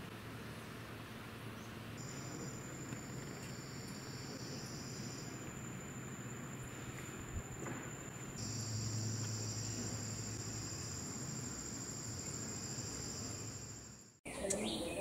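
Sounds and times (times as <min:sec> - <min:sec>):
low background hum: 0:00.0 - 0:15.0
insects chorus: 0:01.6 - 0:15.0.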